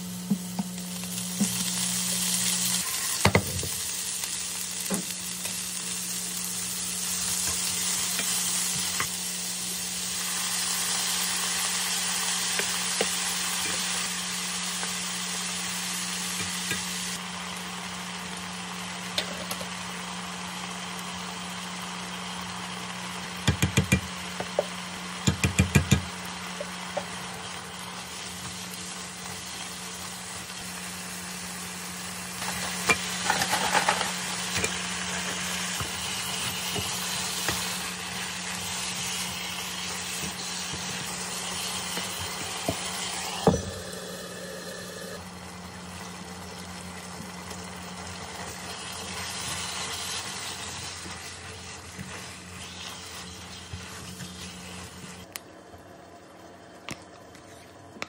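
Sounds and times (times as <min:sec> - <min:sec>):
food sizzling and stirring: 0:00.0 - 0:55.3.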